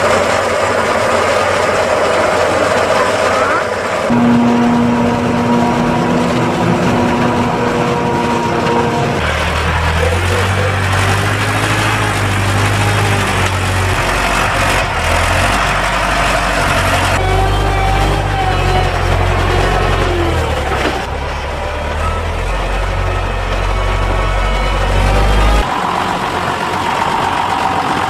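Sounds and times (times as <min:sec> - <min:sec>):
deeper tractor engine: 0:00.0 - 0:28.0
tractor engine whining: 0:00.0 - 0:28.0.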